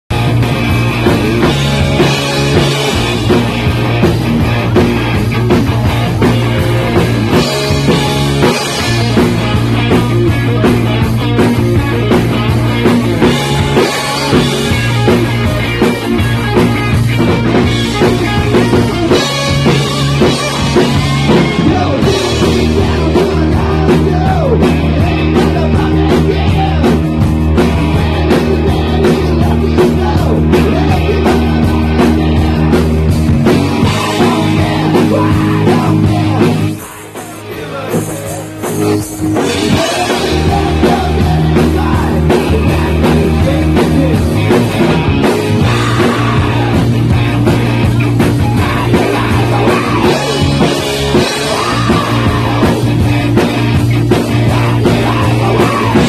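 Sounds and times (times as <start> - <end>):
live rock band playing: 0.1 - 56.0.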